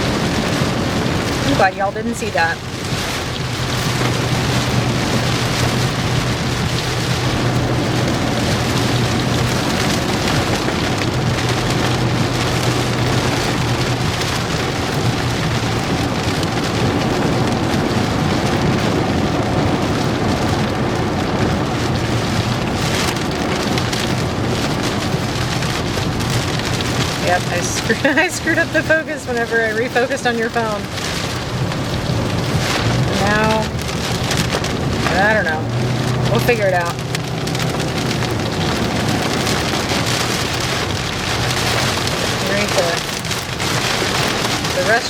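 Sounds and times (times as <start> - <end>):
heavy rain drumming on car roof: 0.0 - 45.0.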